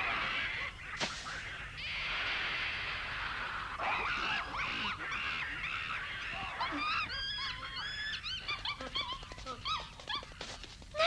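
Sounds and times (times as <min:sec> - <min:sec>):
cartoon monkeys shrieking: 0:00.0 - 0:10.3.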